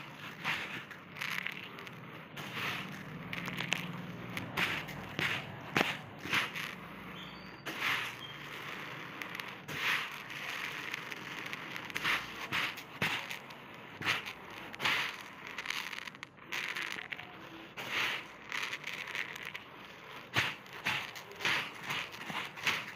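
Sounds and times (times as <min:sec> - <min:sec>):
grains landing ticks: 0:00.0 - 0:22.9
rice grains pouring: 0:00.0 - 0:22.9.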